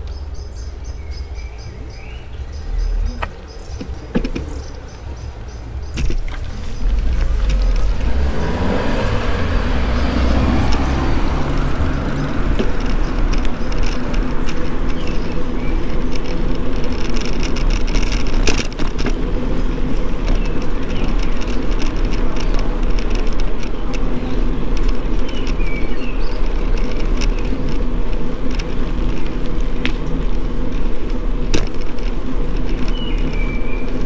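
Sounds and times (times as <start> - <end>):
car engine running: 0.0 - 34.0
road rumble from moving bicycle: 0.0 - 34.0.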